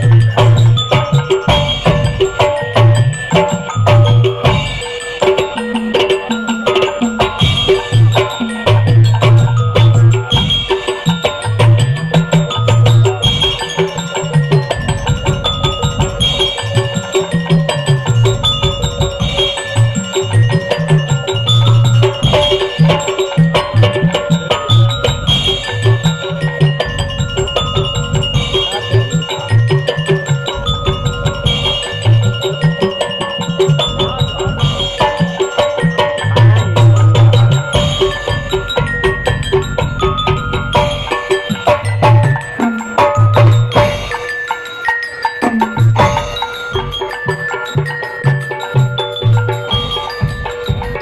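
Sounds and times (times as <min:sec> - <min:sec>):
frame drums playing: 0:00.0 - 0:51.0
melody line: 0:00.0 - 0:51.0.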